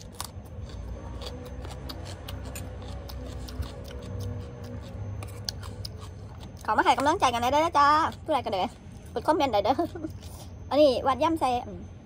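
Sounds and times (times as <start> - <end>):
chewing crunchy food: 0.0 - 10.6.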